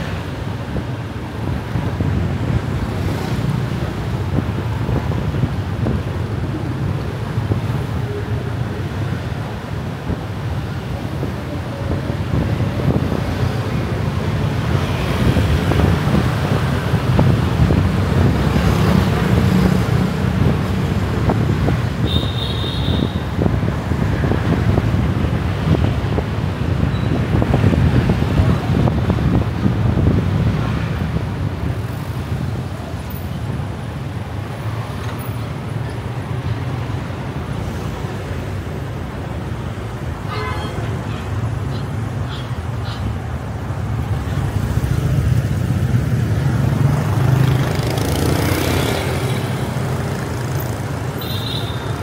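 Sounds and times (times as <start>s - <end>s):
city traffic rumble: 0.0s - 52.0s.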